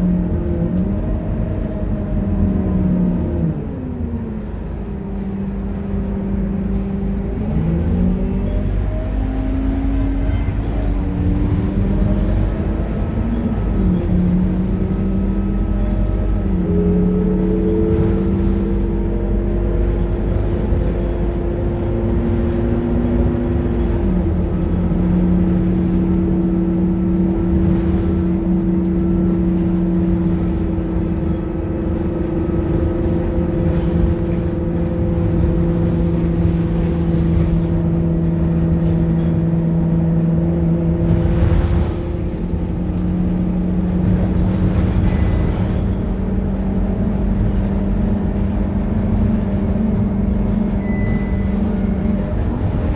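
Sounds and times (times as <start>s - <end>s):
bus engine rumbling: 0.0s - 52.9s.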